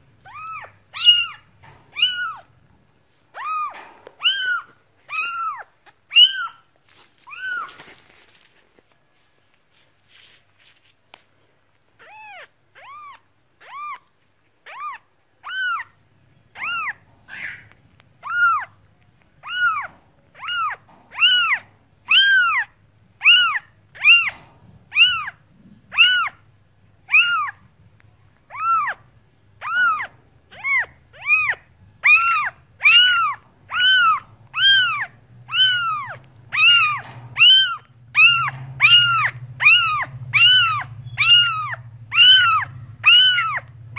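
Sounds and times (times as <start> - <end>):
cat meowing: 0.2 - 2.5, 3.3 - 7.9, 12.0 - 18.8, 19.4 - 26.4, 27.0 - 27.6, 28.5 - 29.0, 29.6 - 43.7.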